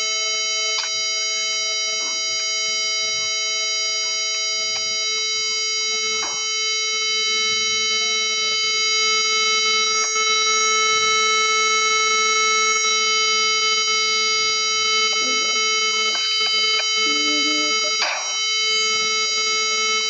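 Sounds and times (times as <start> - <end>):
fire alarm horn buzzing: 0.0 - 20.0
higher alarm tone: 0.0 - 20.0.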